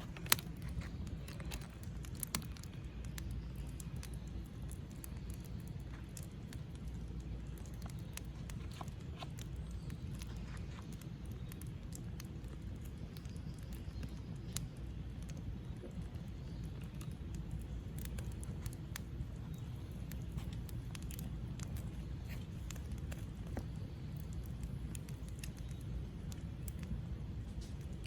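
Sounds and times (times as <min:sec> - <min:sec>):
campfire crackling and popping: 0:00.0 - 0:28.0
steady low rumble: 0:00.0 - 0:28.0.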